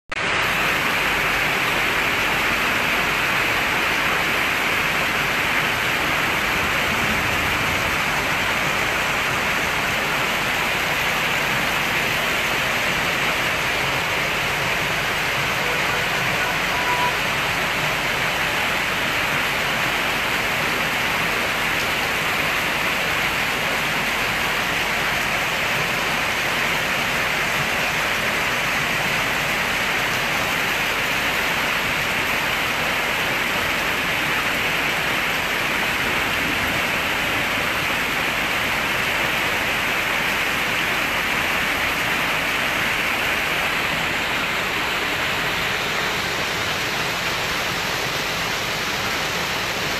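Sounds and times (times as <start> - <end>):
floodwater rushing: 0.1 - 49.9
heavy rain: 0.1 - 49.9.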